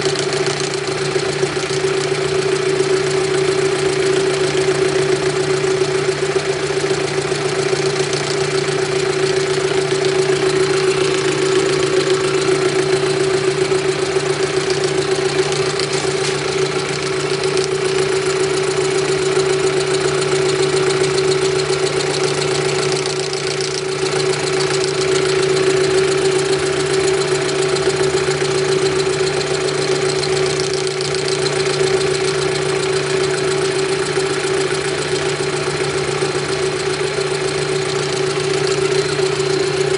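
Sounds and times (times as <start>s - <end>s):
drill mill machine running: 0.0s - 39.9s.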